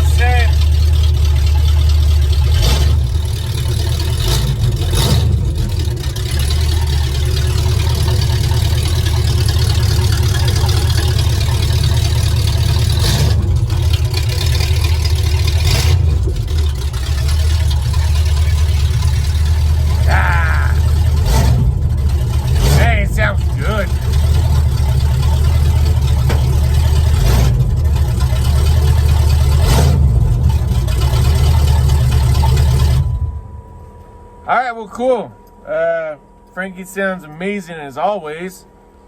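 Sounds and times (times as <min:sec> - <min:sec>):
truck engine idling: 0:00.0 - 0:39.0.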